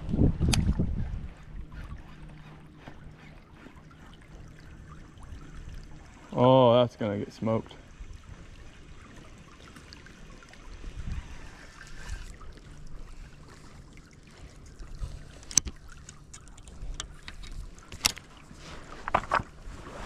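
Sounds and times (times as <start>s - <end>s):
water splashing around kayak: 0.0s - 20.0s.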